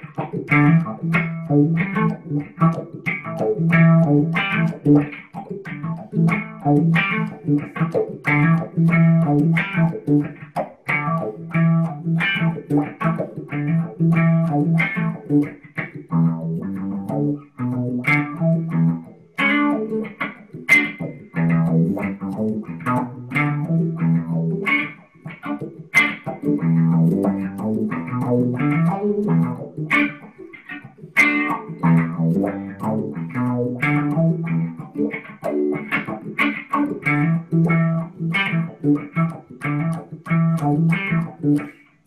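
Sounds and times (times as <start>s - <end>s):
electric bass line: 0.0s - 30.2s, 31.3s - 41.7s
electric guitar chords and licks: 0.0s - 42.0s.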